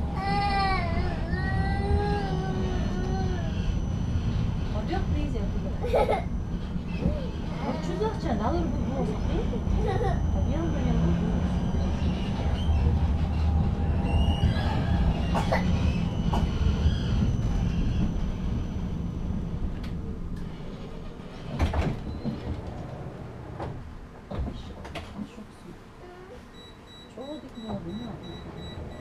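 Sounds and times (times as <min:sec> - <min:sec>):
tram wheels rumbling: 0:00.0 - 0:26.0, 0:27.2 - 0:29.0.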